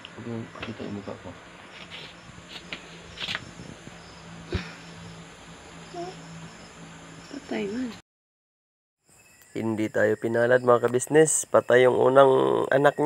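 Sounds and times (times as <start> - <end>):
crickets chirring: 0.0 - 8.0, 9.0 - 13.0.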